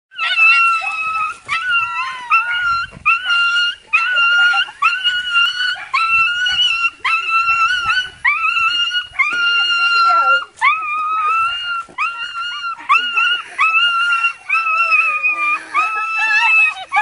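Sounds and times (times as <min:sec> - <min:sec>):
dog whining: 0:00.2 - 0:17.0.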